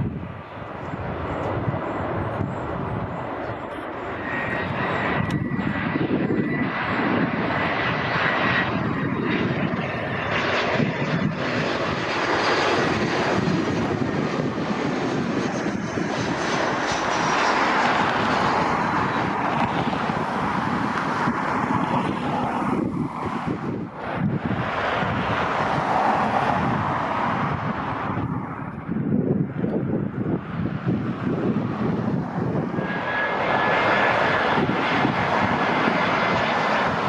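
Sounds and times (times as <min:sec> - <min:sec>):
high engine whine: 0:00.0 - 0:37.0
jet engines rushing: 0:00.0 - 0:37.0.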